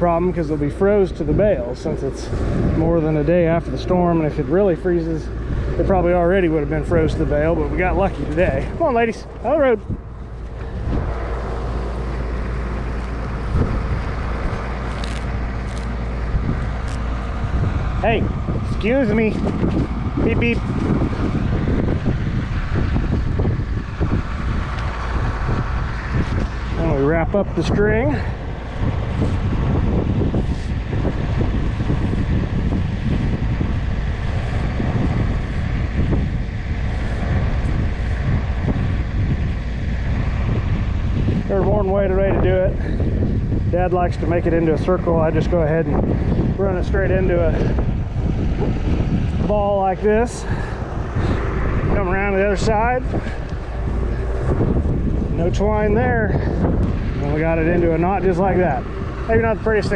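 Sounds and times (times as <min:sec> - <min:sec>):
tractor engine running: 0:00.0 - 0:59.9
wind buffeting microphone: 0:00.0 - 0:59.9.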